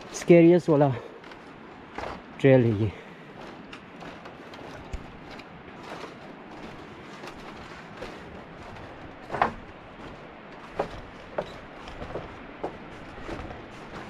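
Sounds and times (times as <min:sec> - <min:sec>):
footsteps on bamboo walkway: 0:00.0 - 0:14.0.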